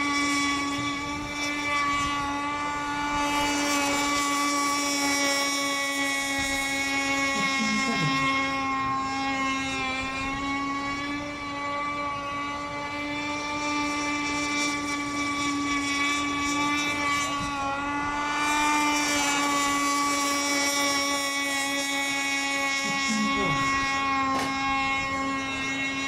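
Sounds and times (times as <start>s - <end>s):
model boat motor droning: 0.0s - 26.0s.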